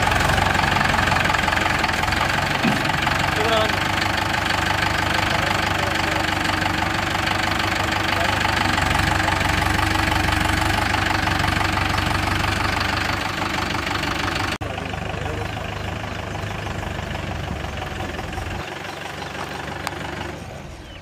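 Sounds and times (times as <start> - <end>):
tractor engines idling: 0.0 - 21.0.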